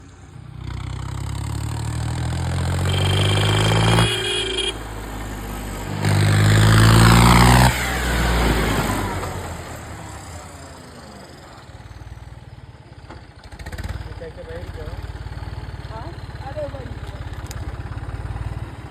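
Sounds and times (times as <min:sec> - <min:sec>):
tractor engine revving: 0:00.0 - 0:12.4, 0:13.0 - 0:18.9.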